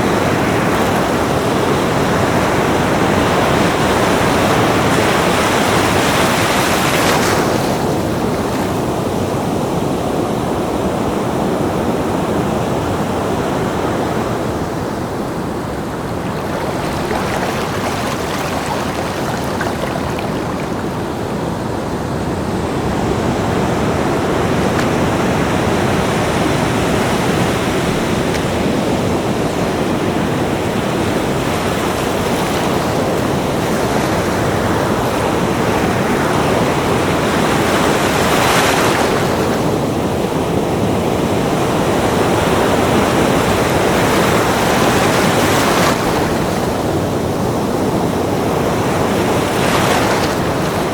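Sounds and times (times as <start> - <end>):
ocean surf breaking on beach: 0.0 - 50.9.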